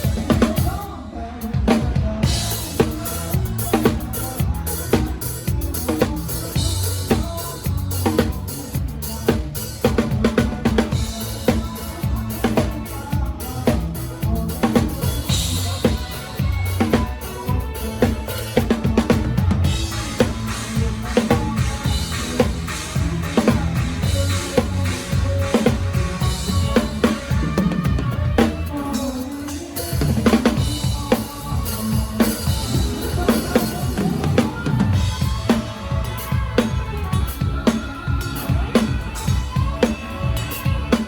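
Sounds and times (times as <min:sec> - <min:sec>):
band playing: 0:00.0 - 0:41.0
drum kit keeping a beat: 0:00.0 - 0:41.0.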